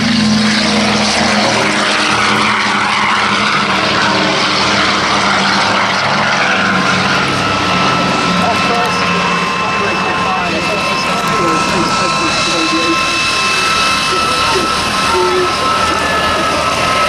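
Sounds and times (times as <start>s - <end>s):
propeller plane engines droning: 0.0s - 17.0s.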